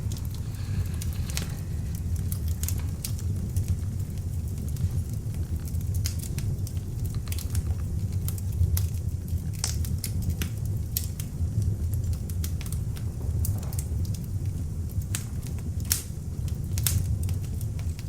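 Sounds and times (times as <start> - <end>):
fire crackling and popping: 0.0 - 18.0
log fire burning: 0.0 - 18.0.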